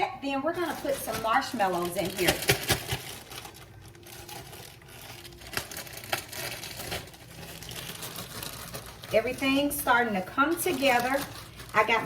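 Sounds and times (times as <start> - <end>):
plastic bag crinkling: 0.2 - 12.0.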